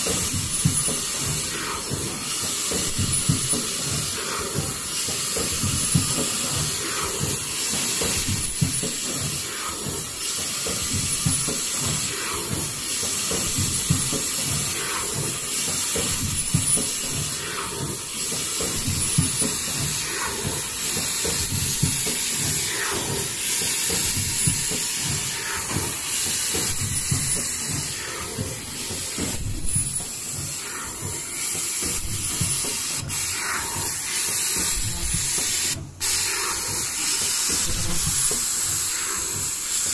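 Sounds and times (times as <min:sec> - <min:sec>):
faint machine stroke: 0:00.0 - 0:39.9
machine noise rushing: 0:01.4 - 0:39.9.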